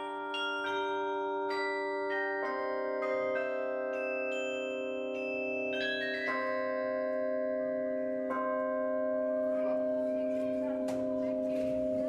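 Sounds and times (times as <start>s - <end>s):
carillon bells ringing a chord: 0.0s - 12.0s.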